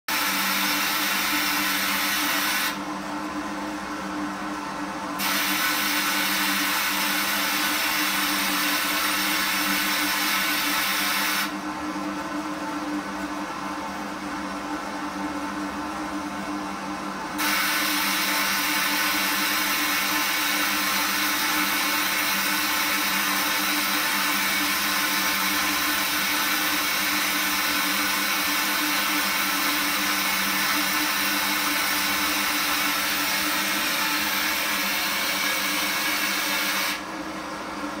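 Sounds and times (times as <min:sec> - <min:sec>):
water heater rushing noise: 0:00.1 - 0:03.8, 0:05.2 - 0:12.0, 0:17.4 - 0:38.0.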